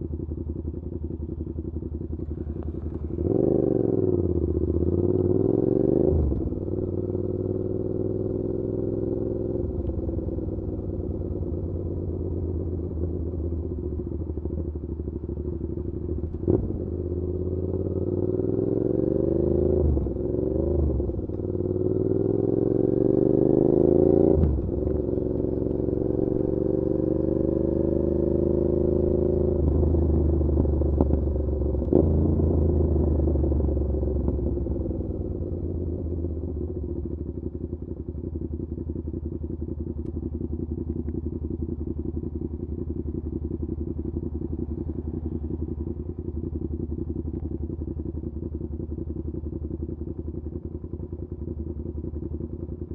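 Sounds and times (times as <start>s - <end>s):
motorcycle engine revving: 2.1s - 51.7s.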